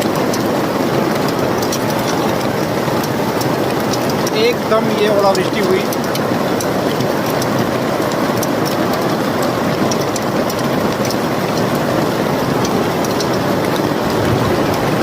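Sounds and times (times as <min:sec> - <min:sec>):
hailstones pelting down: 0:00.0 - 0:15.0.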